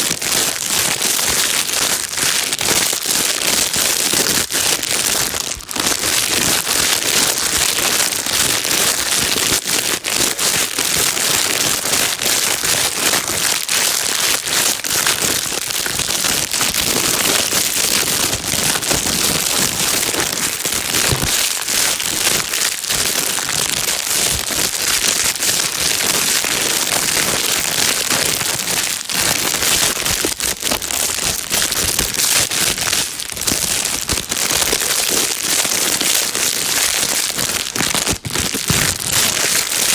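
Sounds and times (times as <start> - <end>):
plastic bag crinkling: 1.7 - 39.9.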